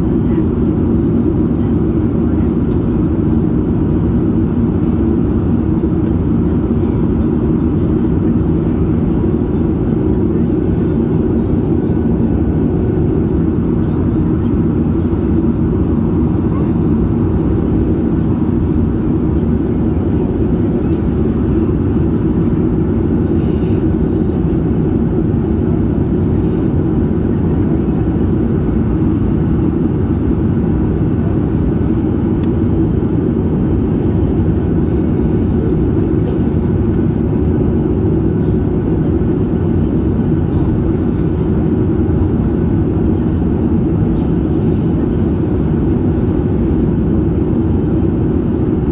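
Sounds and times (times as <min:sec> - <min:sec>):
airliner cabin engine rumble: 0:00.0 - 0:48.9.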